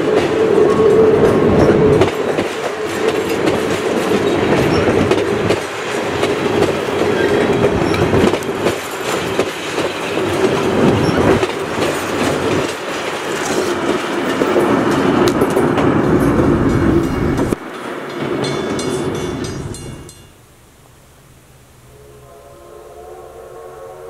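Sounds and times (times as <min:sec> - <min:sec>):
train wheels clattering: 0:00.0 - 0:20.3
train rumble: 0:00.0 - 0:24.0.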